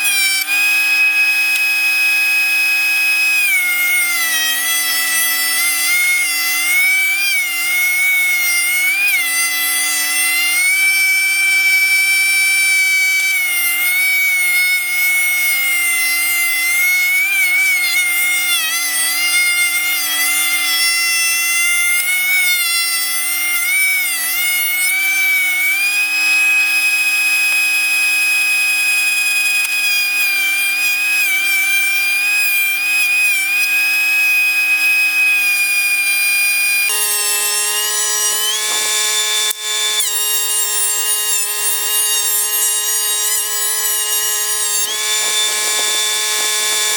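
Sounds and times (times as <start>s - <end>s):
thickness planer motor whine: 0.0s - 46.9s.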